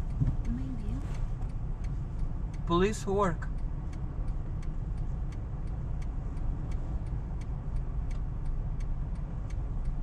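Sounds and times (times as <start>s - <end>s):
car engine and road rumble: 0.0s - 10.0s
turn signal ticking: 0.0s - 10.0s.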